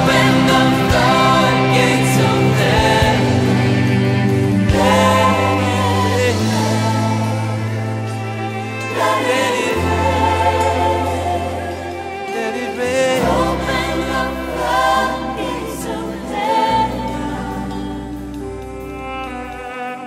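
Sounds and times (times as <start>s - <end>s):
long held bass notes: 0.0s - 12.3s, 13.0s - 20.0s
choir singing with a band: 0.0s - 20.0s.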